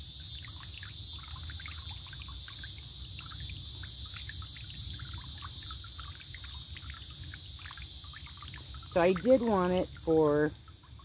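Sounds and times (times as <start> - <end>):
fountain splashing into water: 0.0 - 11.0
insect chorus: 0.0 - 11.0.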